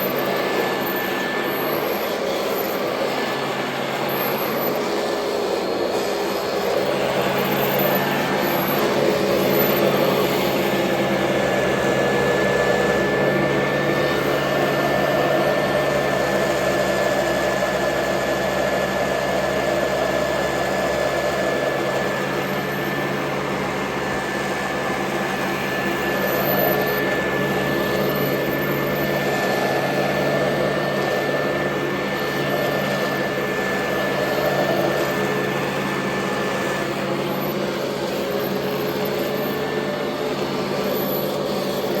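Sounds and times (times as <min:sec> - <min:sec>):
thin high whine: 0:00.0 - 0:42.0
vacuum cleaner running: 0:00.0 - 0:42.0.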